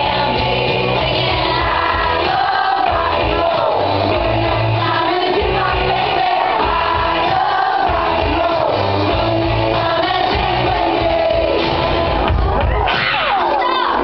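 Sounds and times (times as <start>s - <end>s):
rock song with vocals: 0.0s - 14.0s.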